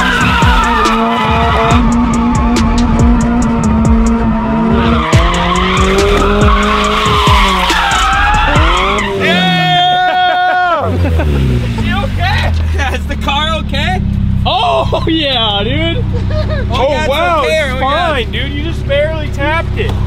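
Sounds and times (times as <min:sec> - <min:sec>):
car engine revving: 0:00.0 - 0:20.0
tyres squealing and skidding: 0:00.0 - 0:20.0.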